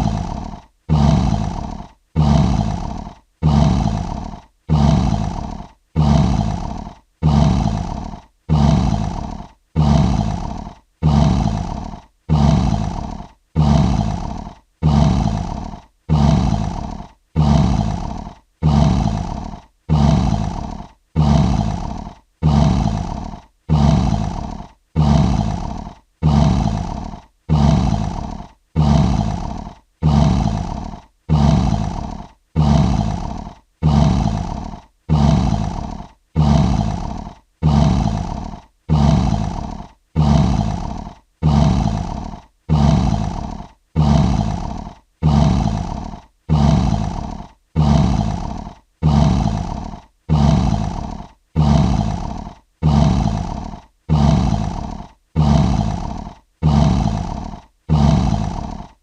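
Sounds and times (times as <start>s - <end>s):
lion roaring: 0.0s - 59.0s.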